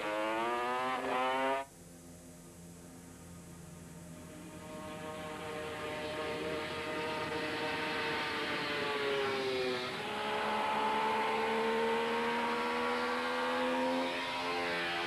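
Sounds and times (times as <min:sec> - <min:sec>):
racing motorcycle engine: 0:00.0 - 0:01.7, 0:04.1 - 0:15.0.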